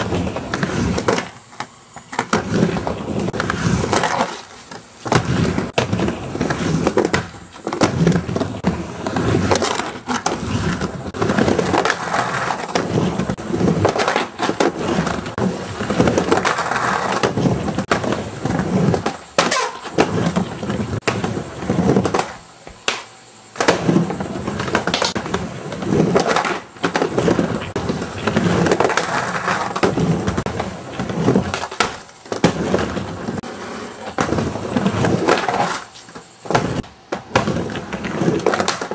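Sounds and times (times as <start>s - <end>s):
skateboard trucks knocking and grinding: 0.0s - 38.9s
skateboard wheels rumbling: 0.0s - 38.9s.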